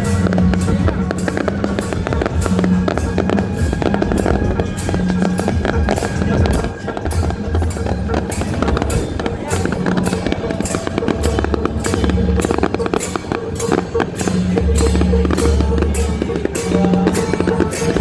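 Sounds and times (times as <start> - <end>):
music: 0.0 - 18.0.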